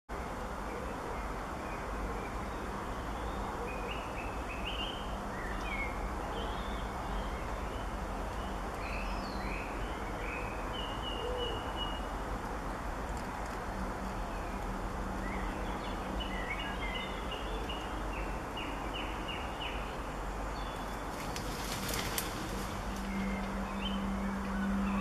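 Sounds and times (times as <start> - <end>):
background hiss: 0.1 - 25.0
songbird chirping and warbling: 0.6 - 12.2, 13.7 - 25.0.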